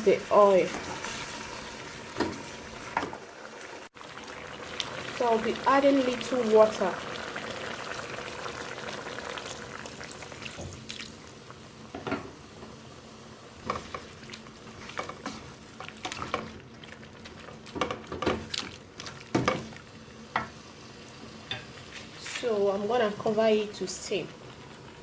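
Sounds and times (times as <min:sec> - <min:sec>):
meat sizzling in oil: 0:00.0 - 0:25.0.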